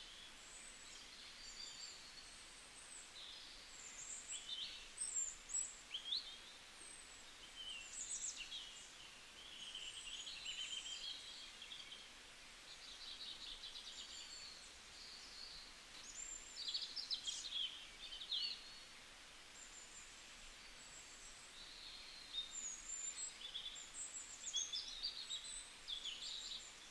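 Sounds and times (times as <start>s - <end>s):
faint steady hiss: 0.0s - 26.9s.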